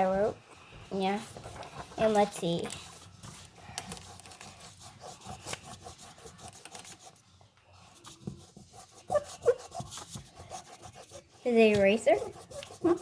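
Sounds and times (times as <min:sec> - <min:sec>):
faint rubbing and scraping: 0:00.0 - 0:13.0.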